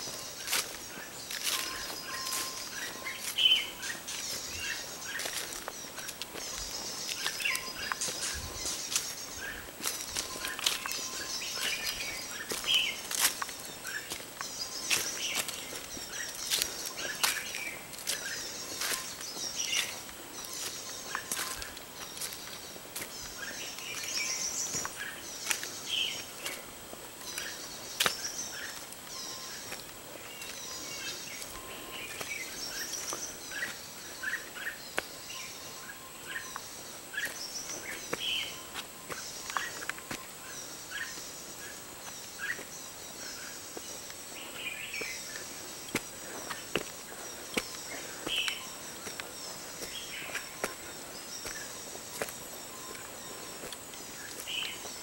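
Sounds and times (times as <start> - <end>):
footsteps on dry leaves: 0.0 - 55.0
forest birds chirping: 0.0 - 55.0.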